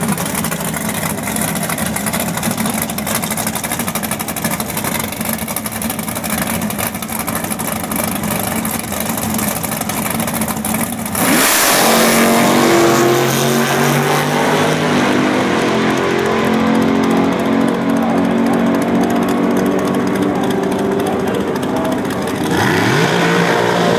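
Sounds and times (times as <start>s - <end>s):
car engine at full throttle: 0.0s - 23.9s.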